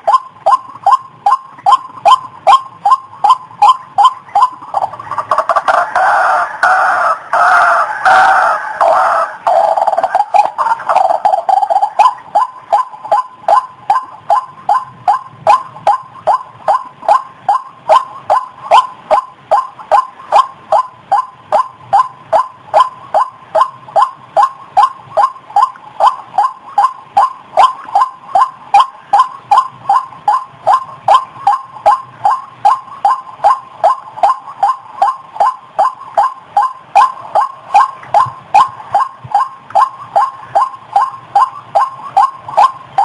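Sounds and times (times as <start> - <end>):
waterhen calling: 0.0 - 43.0.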